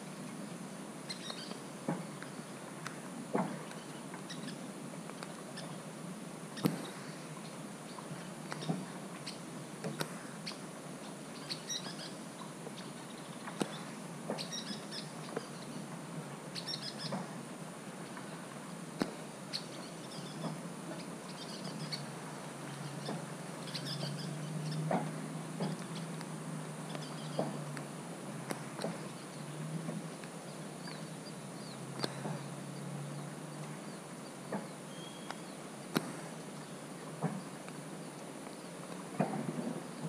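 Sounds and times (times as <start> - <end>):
light rain hiss: 0.0 - 40.0
small birds chirping: 1.0 - 17.4, 18.2 - 27.9, 28.5 - 39.3.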